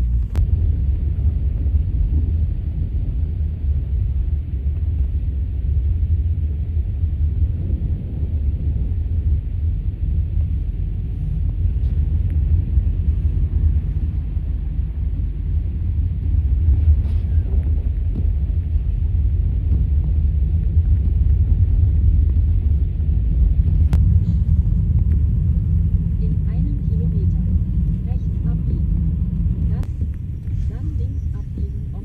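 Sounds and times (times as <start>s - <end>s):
car rumble from inside cabin: 0.0s - 32.0s.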